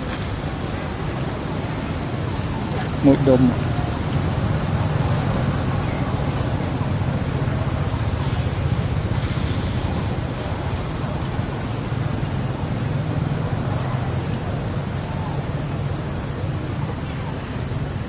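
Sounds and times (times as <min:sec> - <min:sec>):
hiss: 0:00.0 - 0:18.0.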